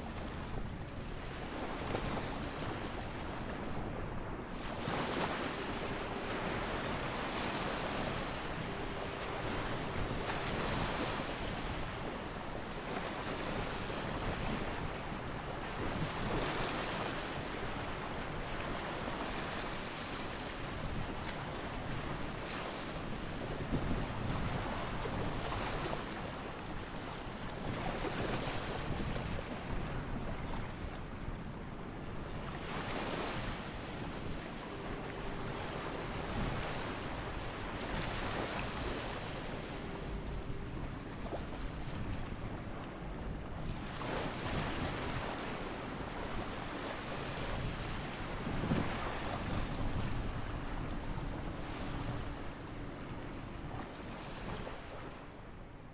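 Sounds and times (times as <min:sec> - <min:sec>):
surf waves breaking: 0:00.0 - 0:55.9.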